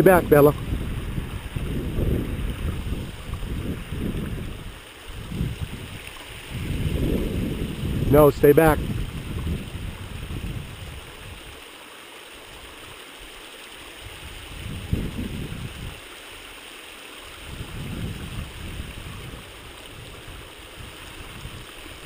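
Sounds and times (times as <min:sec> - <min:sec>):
creek water running over rocks: 0:00.0 - 0:22.0.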